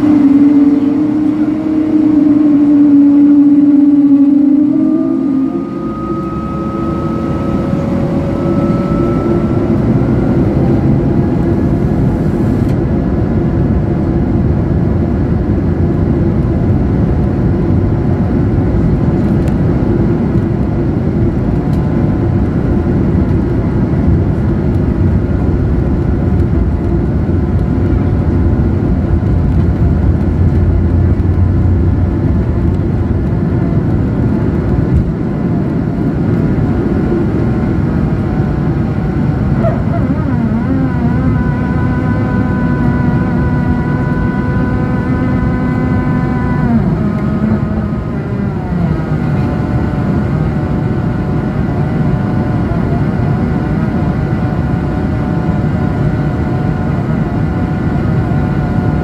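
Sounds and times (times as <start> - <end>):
jet engines at takeoff power: 0.0 - 59.0
runway rumble: 0.0 - 59.0.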